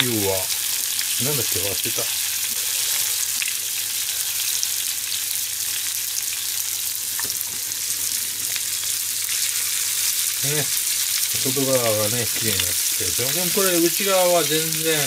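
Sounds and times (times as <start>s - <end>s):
liver sizzling in a frying pan: 0.0s - 15.0s.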